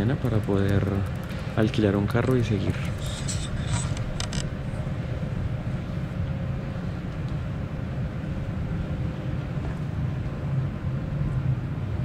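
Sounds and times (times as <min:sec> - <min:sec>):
ventilation hum in large hall: 0:00.0 - 0:12.0.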